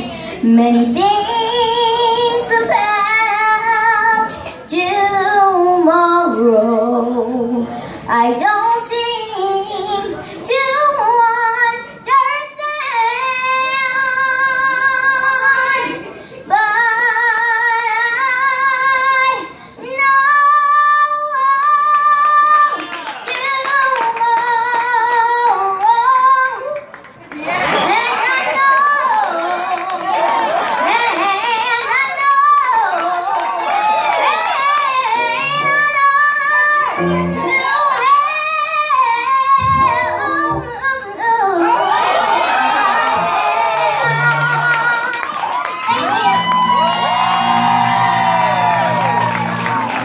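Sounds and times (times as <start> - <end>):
girl singing: 0.0 - 26.9, 27.8 - 29.9, 30.8 - 33.3, 34.2 - 41.9, 43.1 - 46.7.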